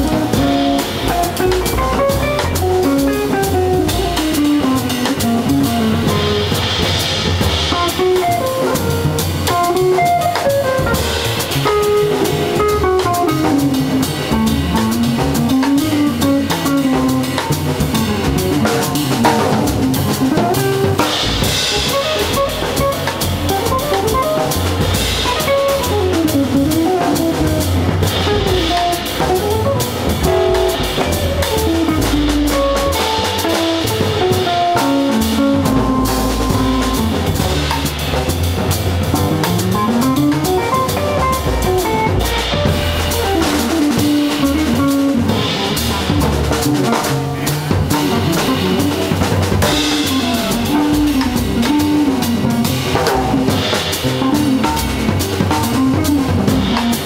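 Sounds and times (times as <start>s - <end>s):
drum kit on cymbals and drums: 0.0s - 57.0s.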